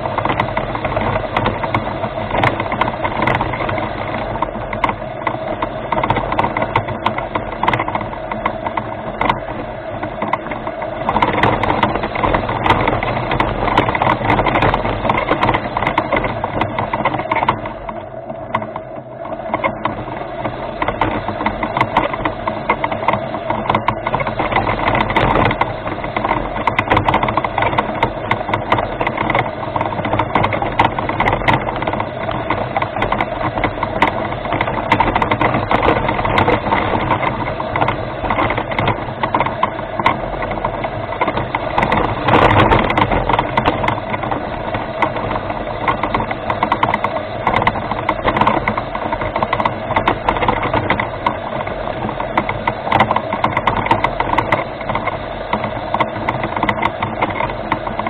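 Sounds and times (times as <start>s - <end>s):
clicks and rattles: 0.0s - 58.0s
motors and gearbox droning: 0.0s - 58.0s.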